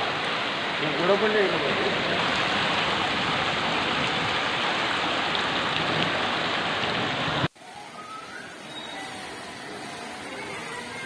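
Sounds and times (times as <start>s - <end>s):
floodwater rushing: 0.0s - 11.0s
heavy rain pouring: 0.0s - 11.0s.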